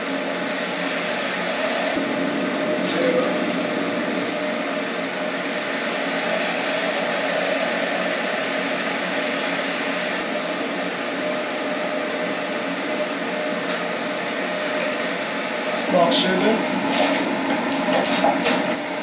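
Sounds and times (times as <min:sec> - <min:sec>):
fan whirring hum: 0:00.0 - 0:19.0.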